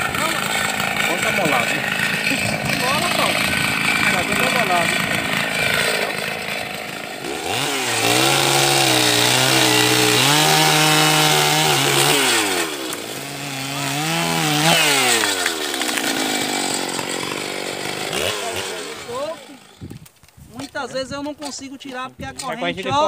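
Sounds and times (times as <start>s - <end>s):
chainsaw cutting wood: 0.0s - 20.8s.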